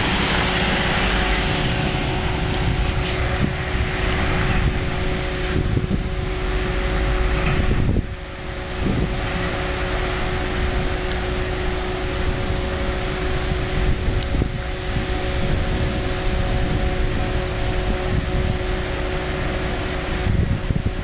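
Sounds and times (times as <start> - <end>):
lorry engine pulling away: 0.0 - 21.0.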